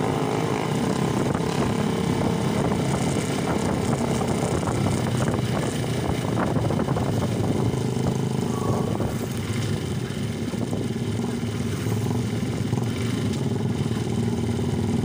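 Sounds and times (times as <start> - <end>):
motorcycle engines humming: 0.0 - 15.0.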